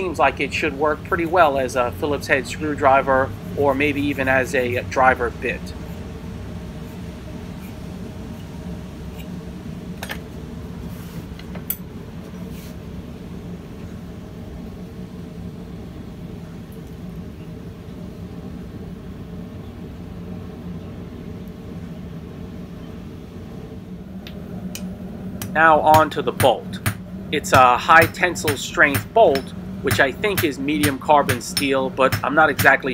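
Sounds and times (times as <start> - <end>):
low mechanical hum: 0.0 - 32.9.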